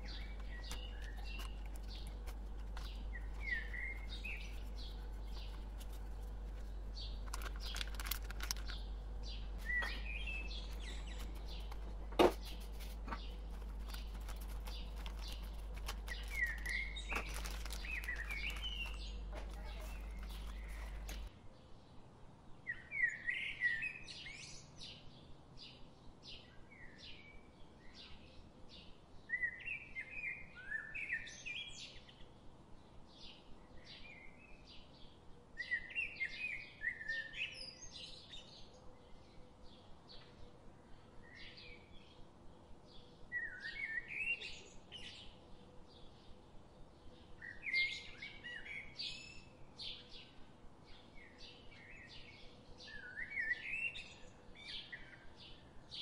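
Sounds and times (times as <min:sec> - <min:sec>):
birds chirping: 0:00.0 - 0:22.0, 0:22.6 - 0:56.0
bird twittering song: 0:00.0 - 0:56.0.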